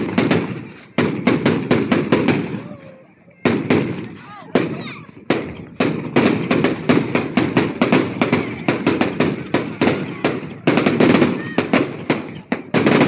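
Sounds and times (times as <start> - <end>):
fireworks bangs: 0.0 - 2.8, 3.4 - 13.0.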